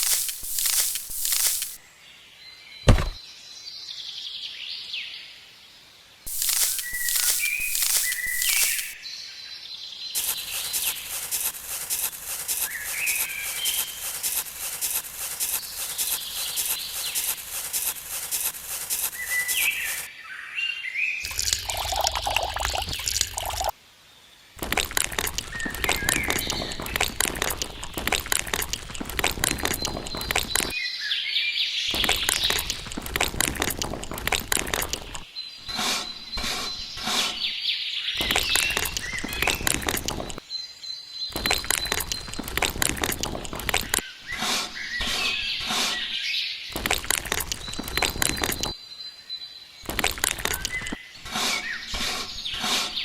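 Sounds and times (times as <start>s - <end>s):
birds chirping: 2.4s - 3.4s, 6.3s - 23.7s, 24.6s - 53.0s.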